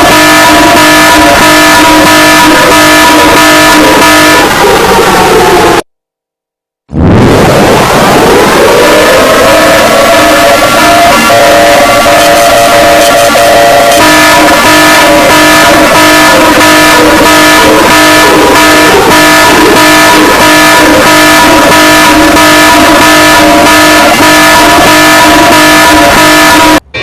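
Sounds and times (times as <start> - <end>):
distorted emergency alarm tones: 0.0 - 4.5, 8.3 - 26.8.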